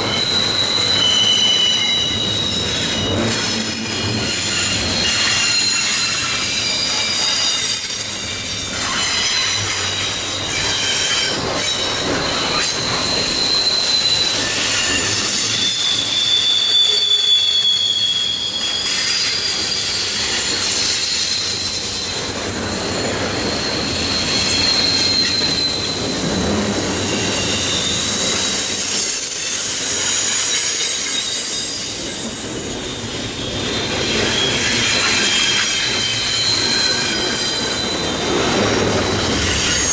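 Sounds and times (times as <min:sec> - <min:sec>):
train rumble and clatter: 0:00.0 - 0:39.9
train wheels squealing on rails: 0:00.0 - 0:39.9.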